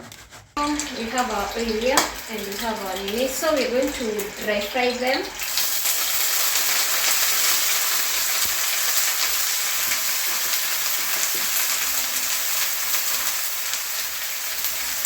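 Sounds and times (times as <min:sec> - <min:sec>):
fish sizzling in a pan: 0:00.6 - 0:15.0.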